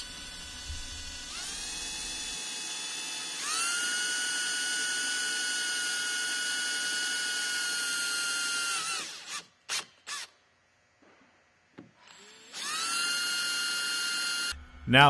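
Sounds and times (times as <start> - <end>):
cordless drill motor whine: 0.0 - 10.4, 12.0 - 14.9.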